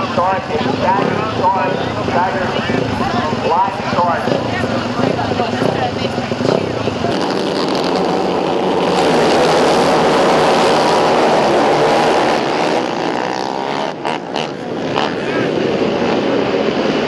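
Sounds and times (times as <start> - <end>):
quad bike engines revving: 0.0 - 17.0.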